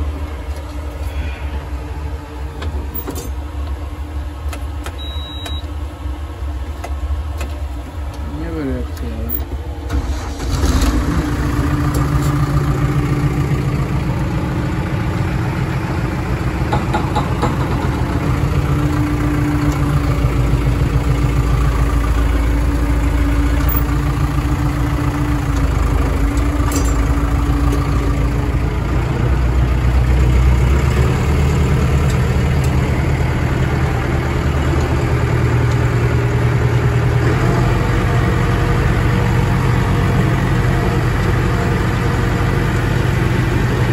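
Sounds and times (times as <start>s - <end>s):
engine idling: 0.0s - 43.9s.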